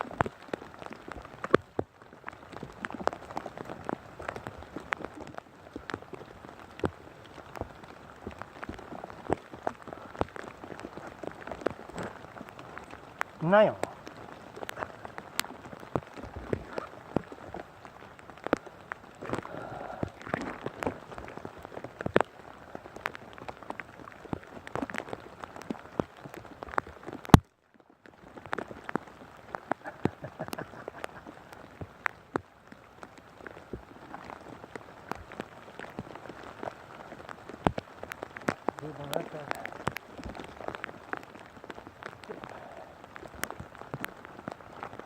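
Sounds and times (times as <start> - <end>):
rain patter: 0.0 - 45.0.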